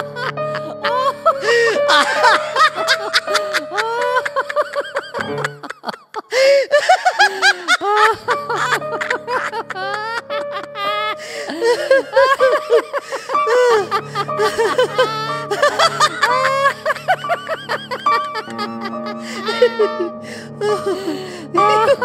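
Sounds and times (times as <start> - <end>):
high-pitched giggling laughter: 0.0 - 20.1.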